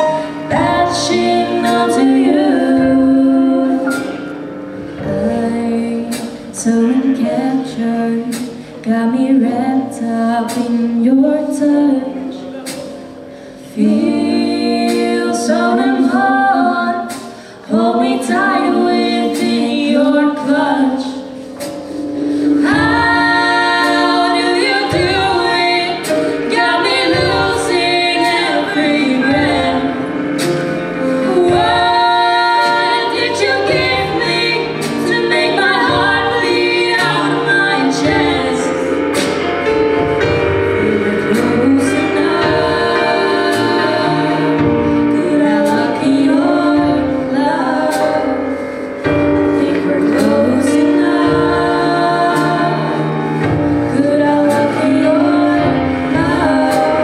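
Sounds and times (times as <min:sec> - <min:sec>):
drum kit: 0:00.0 - 0:57.0
piano: 0:00.0 - 0:57.0
women singing: 0:00.0 - 0:57.0.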